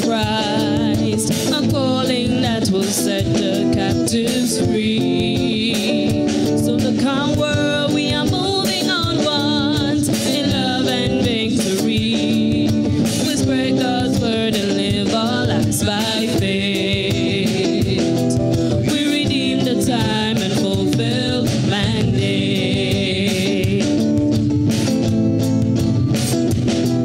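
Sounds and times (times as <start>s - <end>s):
mixed vocal group singing gospel: 0.0s - 24.4s
instrumental accompaniment: 0.0s - 27.0s.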